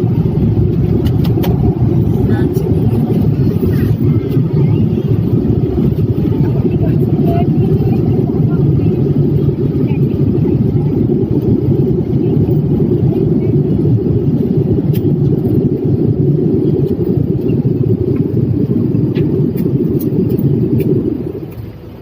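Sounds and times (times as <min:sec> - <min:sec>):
loud low rumble: 0:00.0 - 0:22.0.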